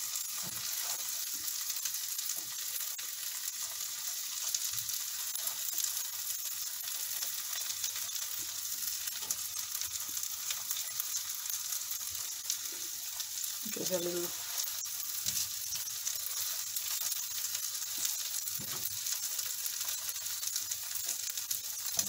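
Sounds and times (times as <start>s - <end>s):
omelette sizzling in oil: 0.0s - 22.0s
spatula ticks and scrapes: 0.1s - 22.0s.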